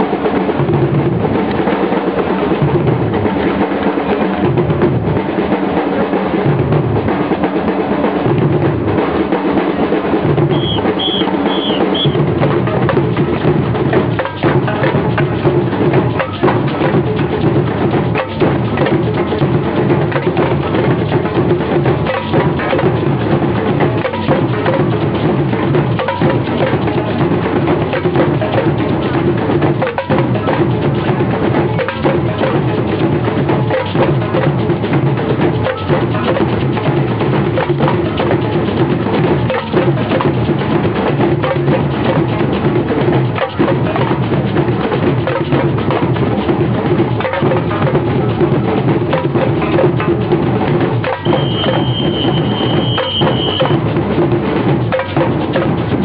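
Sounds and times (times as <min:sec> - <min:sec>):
marching band playing: 0:00.0 - 0:56.0
sharp rapid drum strokes: 0:00.0 - 0:56.0.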